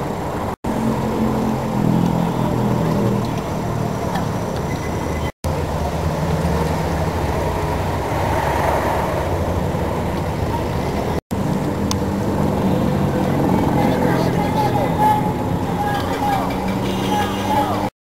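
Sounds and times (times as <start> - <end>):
low rumbling street hum: 0.0 - 17.9.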